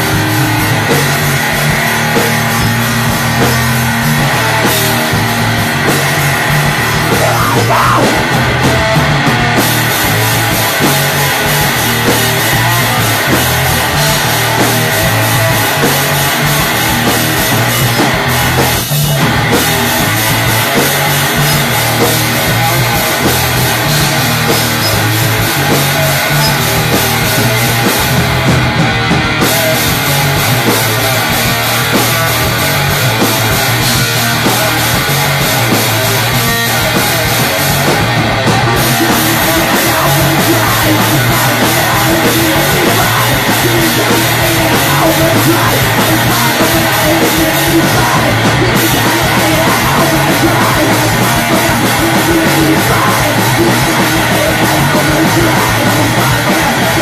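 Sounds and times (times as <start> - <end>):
punk rock band playing: 0.0 - 57.0.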